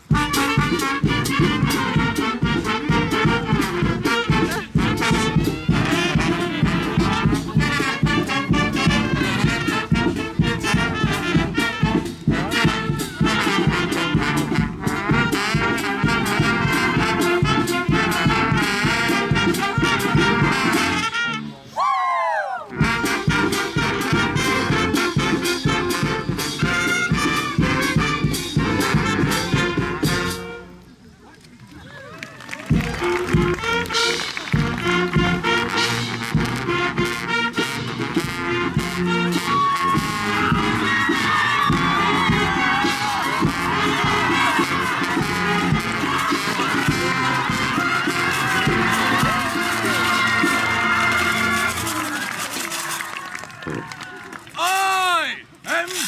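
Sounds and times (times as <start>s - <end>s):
brass band playing: 0.0s - 21.7s, 22.7s - 31.0s, 32.6s - 53.6s.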